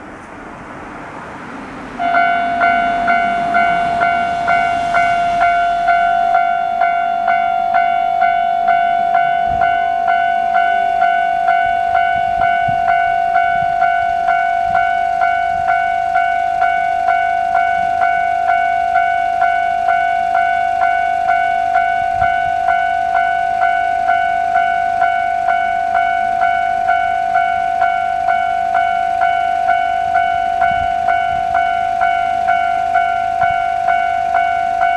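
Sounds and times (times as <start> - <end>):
level crossing warning bell: 1.6 - 34.9.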